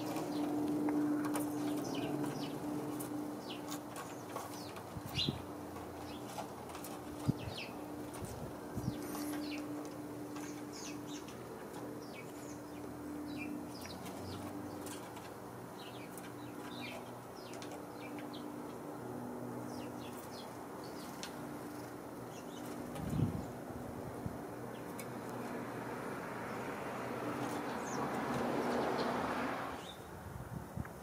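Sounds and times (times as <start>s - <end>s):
sparrows chirping: 0.0s - 30.1s.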